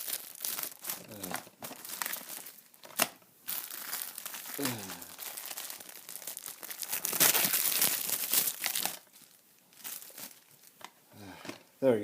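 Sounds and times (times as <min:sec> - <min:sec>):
shrink wrap crinkling and tearing: 0:00.0 - 0:10.9.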